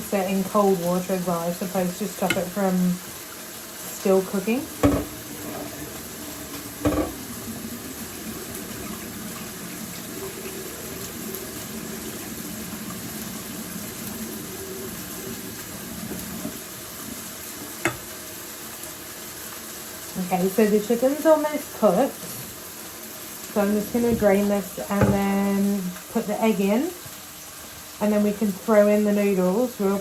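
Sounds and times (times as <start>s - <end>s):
tap water running: 0.0s - 30.0s.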